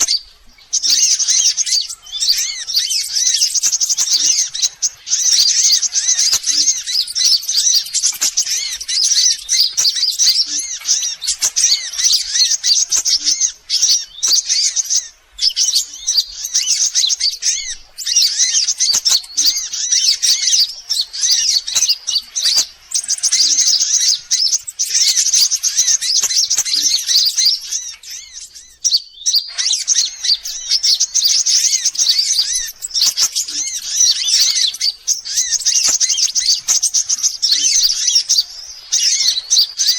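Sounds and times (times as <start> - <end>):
sunbirds chirping: 0.0 - 39.9.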